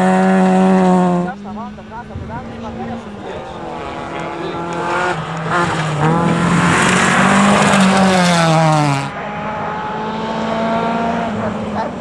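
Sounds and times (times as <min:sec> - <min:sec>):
rally car engine revving past: 0:00.0 - 0:01.3, 0:02.2 - 0:12.0.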